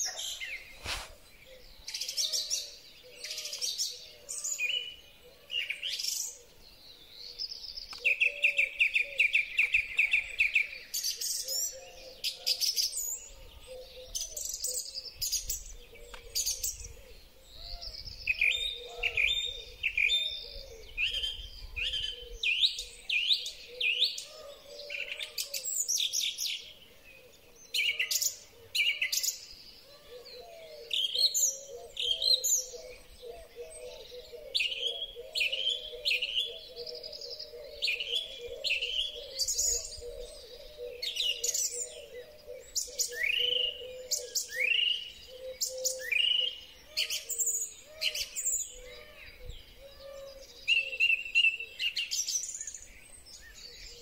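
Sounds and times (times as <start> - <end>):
bird singing lower notes: 0.0 - 54.0
song thrush singing: 0.0 - 54.0.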